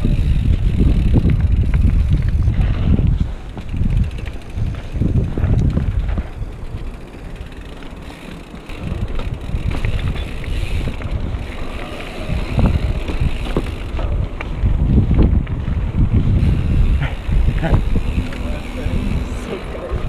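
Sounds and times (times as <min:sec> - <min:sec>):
bike rolling over rough trail: 0:00.0 - 0:20.0
wind buffeting microphone: 0:00.0 - 0:20.0.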